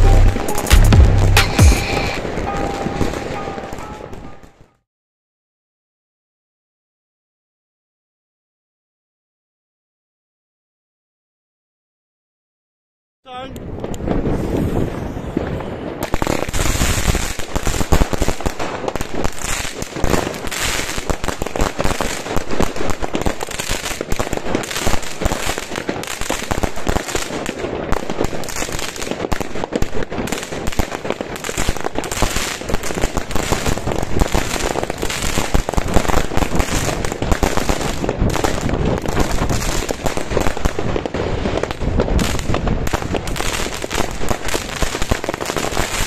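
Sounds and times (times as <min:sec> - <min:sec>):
firework cake volley: 0:00.0 - 0:04.8, 0:13.2 - 0:46.0.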